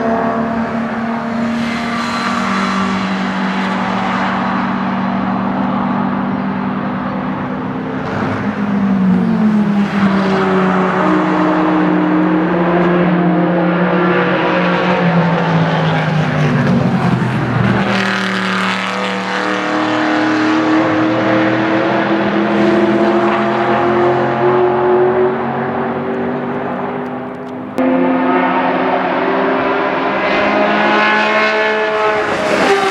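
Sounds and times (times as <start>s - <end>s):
race car engines: 0.0s - 32.9s.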